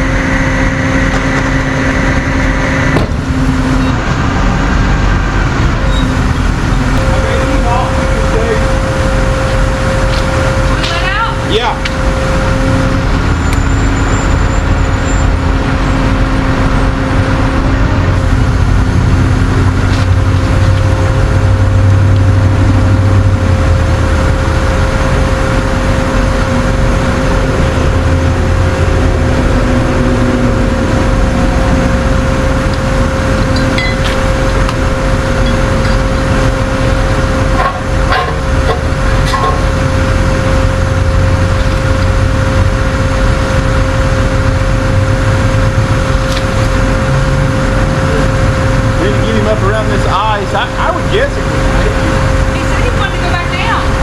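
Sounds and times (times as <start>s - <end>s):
constant whine: 0.0s - 54.0s
truck engine running: 0.0s - 54.0s.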